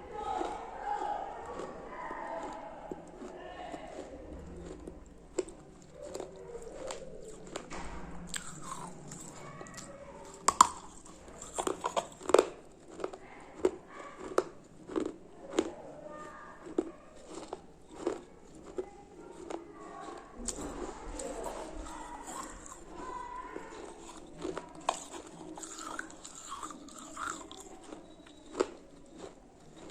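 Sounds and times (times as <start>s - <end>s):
crunching and chewing: 0.0s - 29.9s
loud bite: 0.2s - 15.7s, 16.6s - 29.9s.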